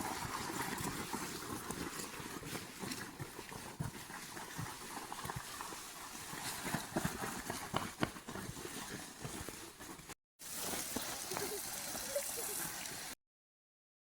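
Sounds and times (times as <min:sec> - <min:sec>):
footsteps on wet trail: 0:00.0 - 0:12.6.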